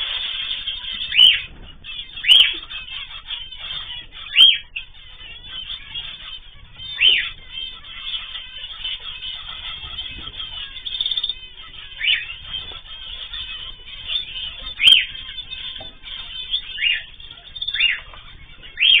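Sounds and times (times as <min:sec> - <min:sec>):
background chatter: 0:00.0 - 0:19.0
caged birds chirping: 0:00.0 - 0:19.0.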